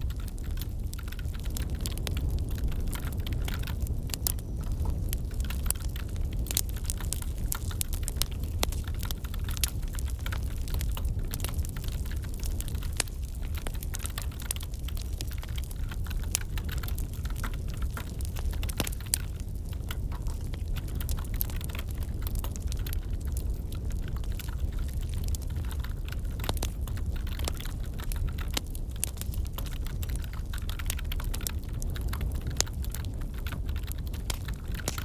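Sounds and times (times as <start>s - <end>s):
low steady rumble: 0.0s - 35.0s
wood fire crackling: 0.0s - 35.0s.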